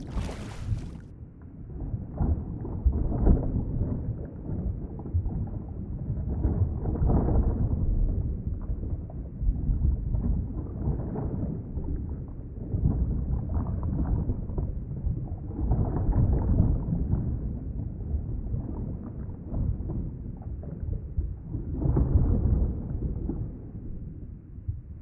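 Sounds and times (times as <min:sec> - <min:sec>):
muffled underwater water rumble: 0:00.0 - 0:01.0, 0:01.6 - 0:25.0.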